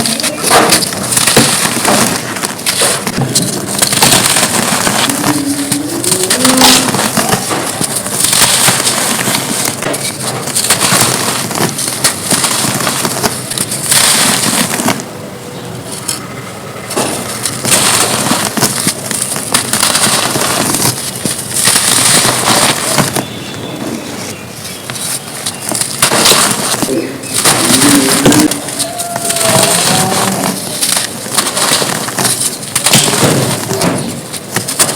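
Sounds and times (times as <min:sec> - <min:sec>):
dirt crunching and crackling: 0:00.0 - 0:34.9.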